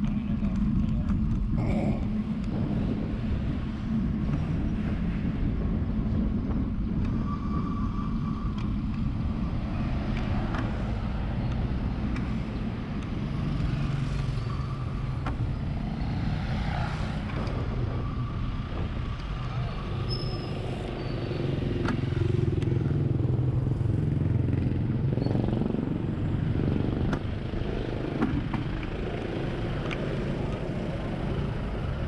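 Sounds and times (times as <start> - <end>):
road and wind noise: 0.0 - 32.0.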